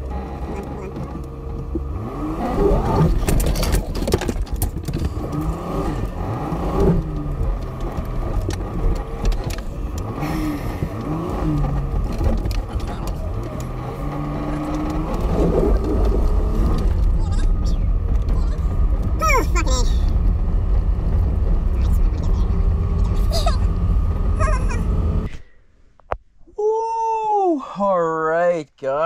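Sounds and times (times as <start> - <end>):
body and suspension rattling: 0.0 - 25.3
van engine revving: 0.0 - 25.4
low rumble: 0.6 - 25.5.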